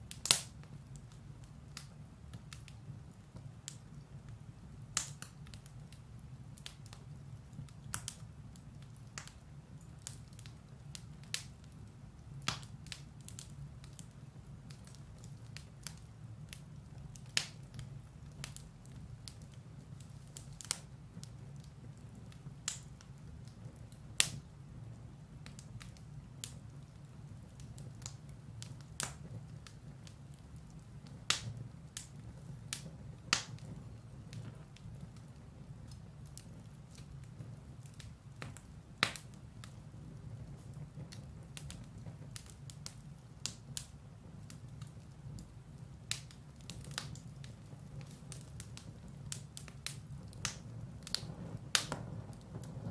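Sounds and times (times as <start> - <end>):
firewood crackling and popping: 0.0 - 52.9
flames rumbling: 0.0 - 52.9.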